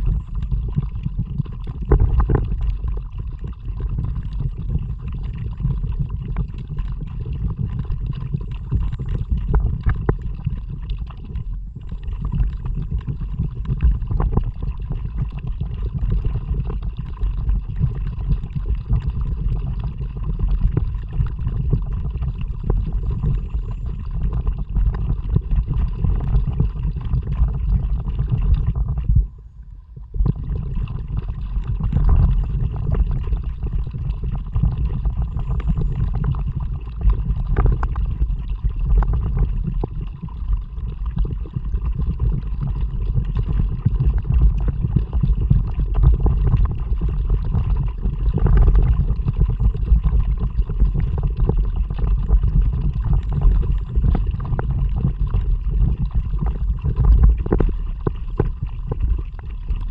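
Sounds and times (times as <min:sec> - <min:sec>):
water gurgling: 0:00.0 - 0:59.9
wind rumbling on microphone: 0:00.0 - 0:59.9.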